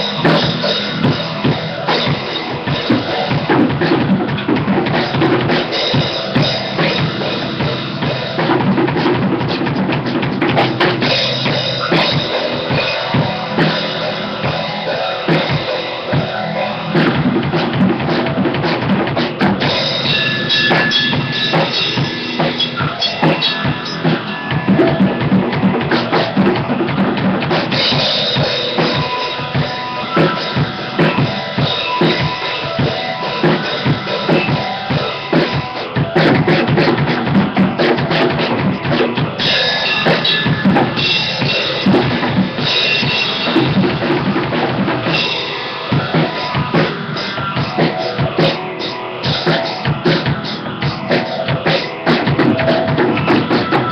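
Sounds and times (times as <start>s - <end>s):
acoustic drum kit playing: 0.0s - 53.9s.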